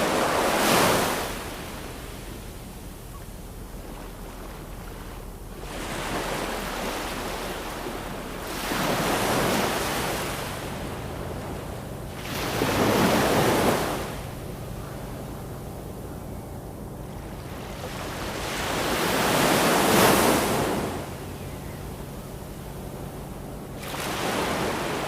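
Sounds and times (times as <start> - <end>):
ocean waves washing in: 0.0 - 15.8, 17.2 - 21.4, 22.2 - 25.0.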